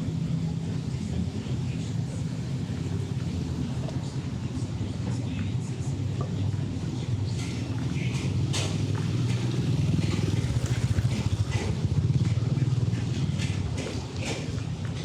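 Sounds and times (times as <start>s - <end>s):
low engine rumble of traffic: 0.0s - 15.0s.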